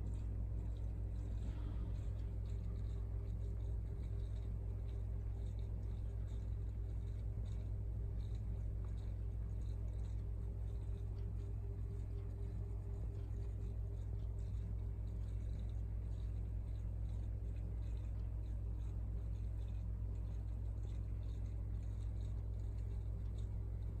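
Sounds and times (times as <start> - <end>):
aquarium equipment humming: 0.0 - 24.0.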